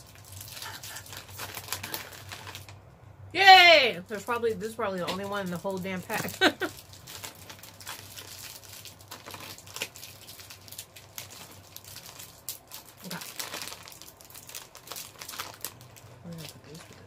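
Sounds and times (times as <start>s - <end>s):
plastic candy wrappers crinkling: 0.0s - 3.0s, 4.1s - 17.0s.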